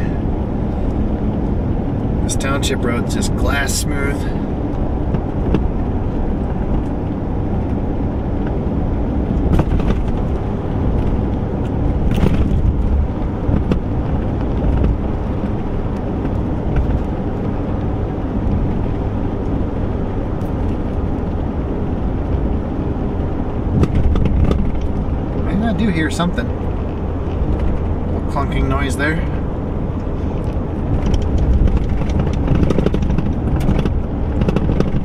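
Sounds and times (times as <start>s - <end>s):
engine and tyres rumbling: 0.0s - 35.0s.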